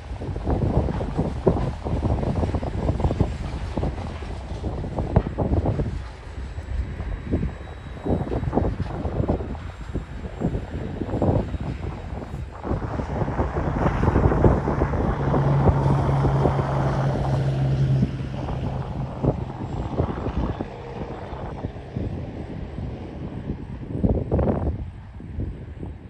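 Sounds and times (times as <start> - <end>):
freight wagons rumbling: 0.0 - 24.0
low hum: 2.5 - 25.4.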